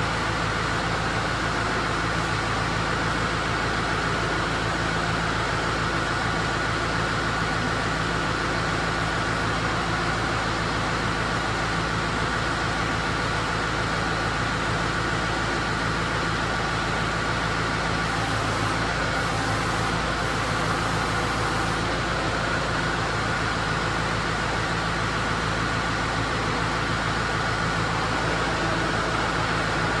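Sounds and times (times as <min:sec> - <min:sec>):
steady whine: 0:00.0 - 0:30.0
tractor diesel engine running: 0:00.0 - 0:30.0.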